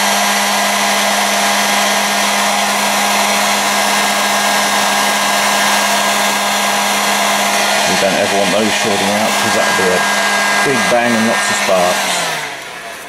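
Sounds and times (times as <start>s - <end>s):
hot air gun blowing: 0.0s - 13.0s.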